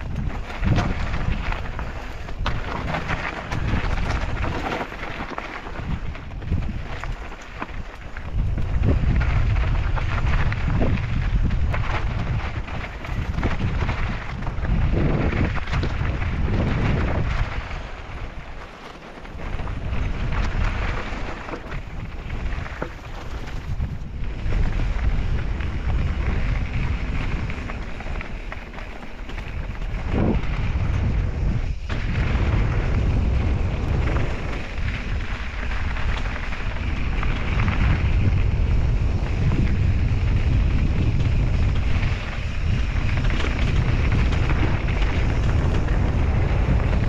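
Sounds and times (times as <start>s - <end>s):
bike rattling: 0.0s - 47.0s
bike tyres rumbling on gravel: 0.0s - 47.0s
wind buffeting microphone: 0.0s - 47.0s.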